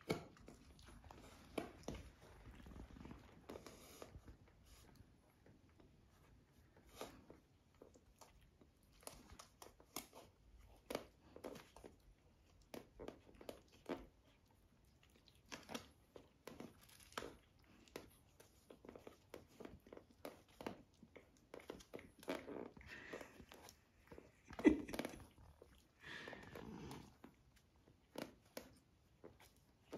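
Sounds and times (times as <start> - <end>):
puppies rustling and scratching: 0.0 - 29.9.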